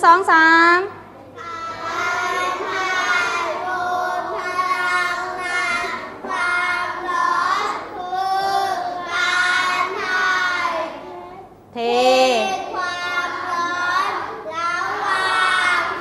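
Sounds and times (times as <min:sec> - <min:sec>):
children chanting in unison: 0:01.4 - 0:11.3, 0:12.4 - 0:16.0.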